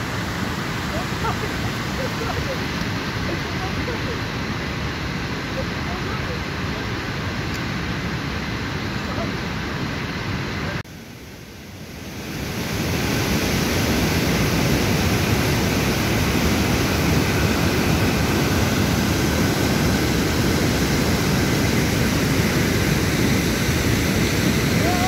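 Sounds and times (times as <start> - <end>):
stream rushing over boulders: 0.0 - 25.0.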